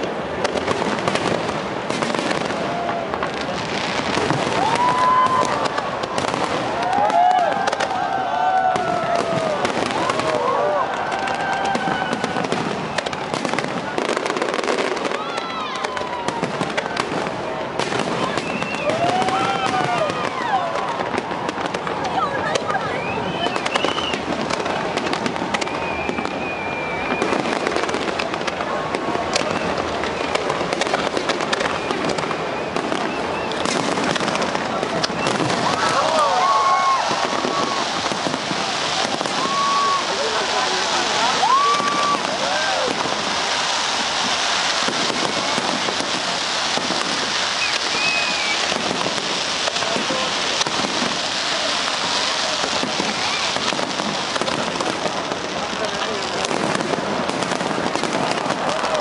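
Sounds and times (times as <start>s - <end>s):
firework whistle: 0.0s - 17.2s, 17.8s - 28.6s, 29.3s - 55.4s
fireworks crackling and popping: 0.0s - 59.0s.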